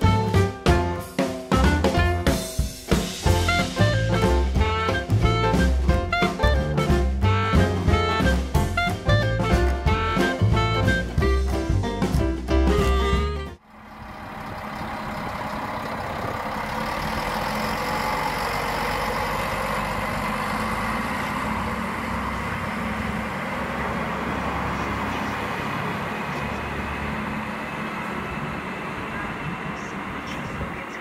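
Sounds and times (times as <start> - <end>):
diesel railcar engine drone: 0.0 - 31.0.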